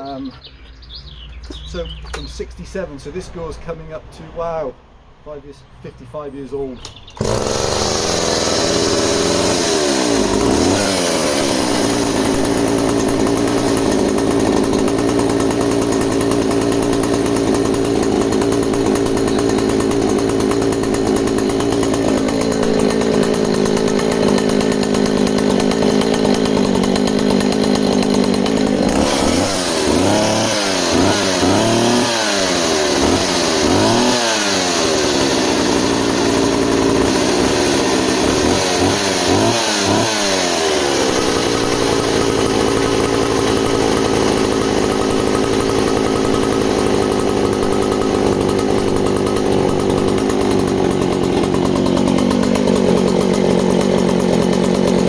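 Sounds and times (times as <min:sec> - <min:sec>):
chainsaw running and revving: 0:07.2 - 0:55.0.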